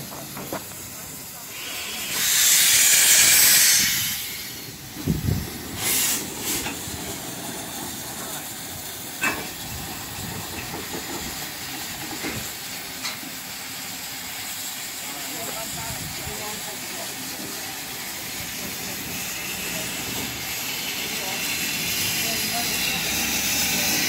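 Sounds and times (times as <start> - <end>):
steam hiss: 0.0 - 24.0.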